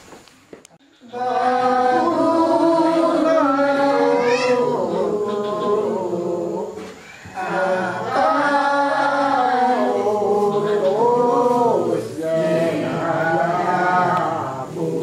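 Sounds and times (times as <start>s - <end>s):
unaccompanied voices singing hymn: 0.8s - 15.0s.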